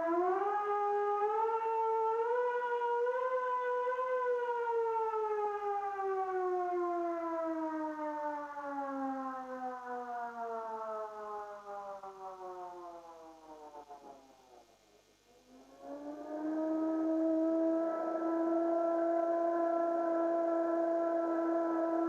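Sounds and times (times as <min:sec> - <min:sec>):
civil defence siren wailing: 0:00.0 - 0:22.0.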